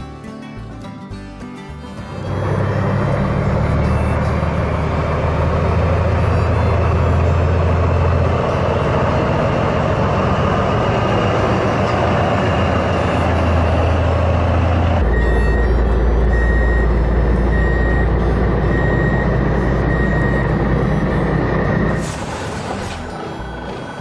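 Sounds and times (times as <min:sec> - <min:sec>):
heavy truck engine running: 0:00.0 - 0:24.0
reversing alarm beeping: 0:02.1 - 0:24.0.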